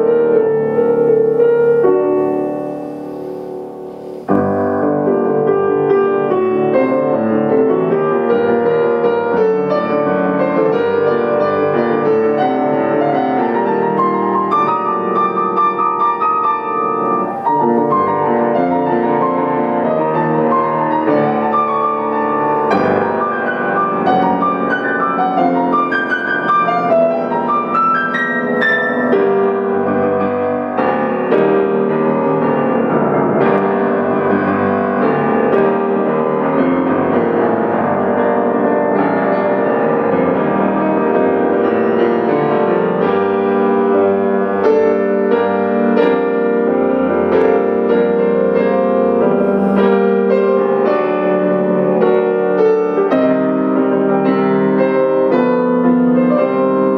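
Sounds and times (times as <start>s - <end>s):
solo grand piano: 0.0s - 56.9s.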